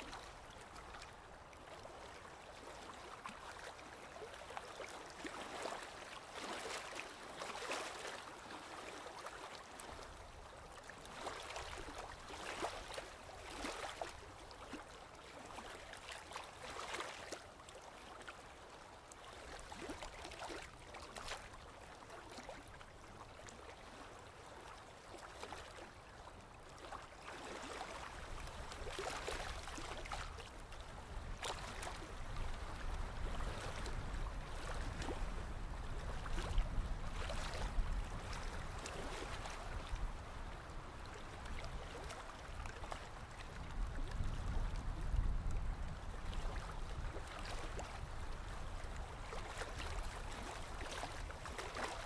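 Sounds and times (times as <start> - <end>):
low rumble of surf: 0.0 - 52.0
sea waves lapping and splashing: 0.0 - 52.0.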